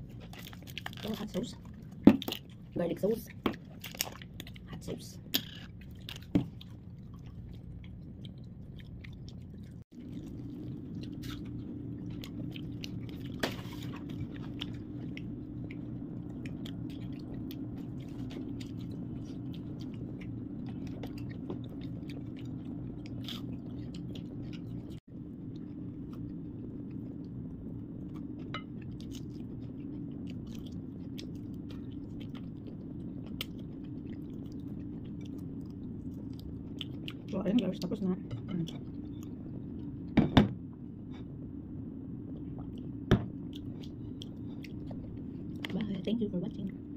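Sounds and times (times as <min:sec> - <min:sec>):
chewing crispy fried chicken: 0:00.0 - 0:39.9, 0:42.4 - 0:46.8
steady low hum: 0:00.0 - 0:46.9.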